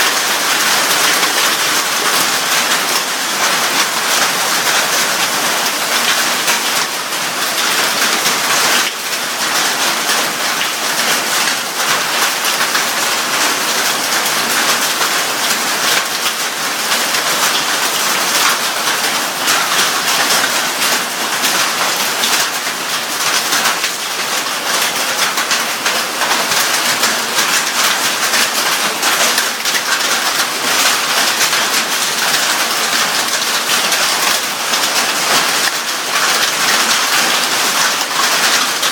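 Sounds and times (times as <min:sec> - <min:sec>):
heavy rain and hail: 0:00.0 - 0:38.9.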